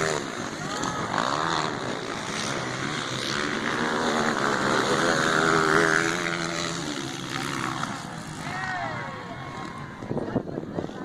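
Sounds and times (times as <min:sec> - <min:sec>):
motocross bike engine revving: 0:00.0 - 0:10.1.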